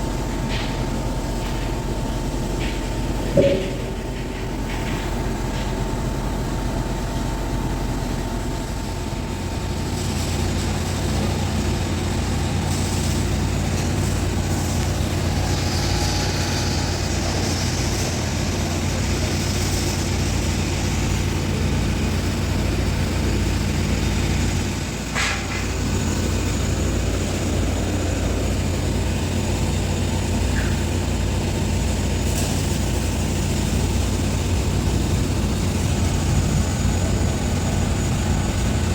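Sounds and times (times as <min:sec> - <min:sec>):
low engine rumble: 0:00.0 - 0:38.9.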